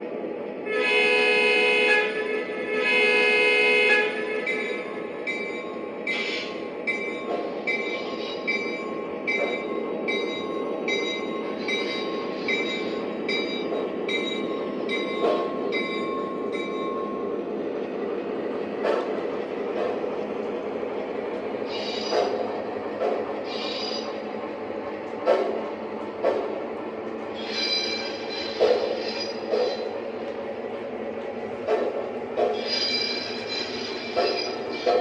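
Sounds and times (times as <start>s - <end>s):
model locomotive rumbling on track: 0.6s - 35.0s.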